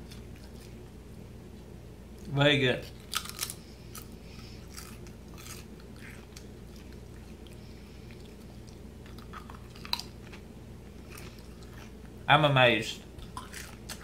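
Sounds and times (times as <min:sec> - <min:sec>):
person chewing crisp: 0:00.0 - 0:01.0, 0:02.8 - 0:12.3, 0:13.2 - 0:14.0.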